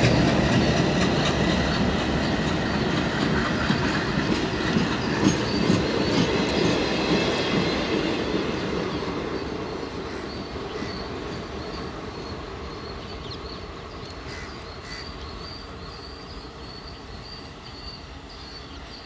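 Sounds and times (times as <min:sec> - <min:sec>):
train wheels rumbling over track: 0:00.0 - 0:19.0.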